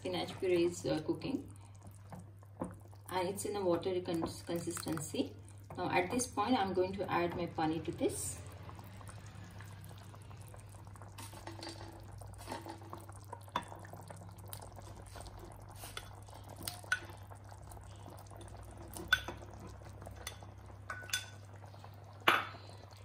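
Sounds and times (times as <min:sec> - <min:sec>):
puree bubbling at a boil: 0:00.0 - 0:23.0.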